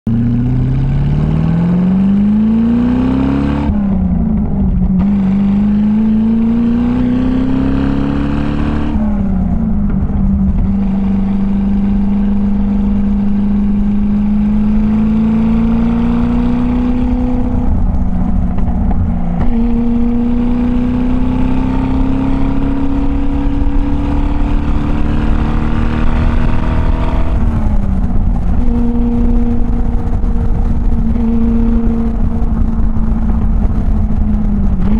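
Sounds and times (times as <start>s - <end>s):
car engine accelerating: 0.1s - 34.9s.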